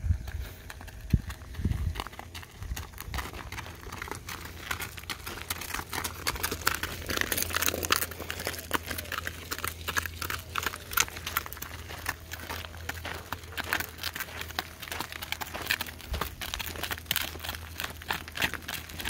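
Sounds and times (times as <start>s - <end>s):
hooves and wheels on gravel: 0.0s - 19.0s.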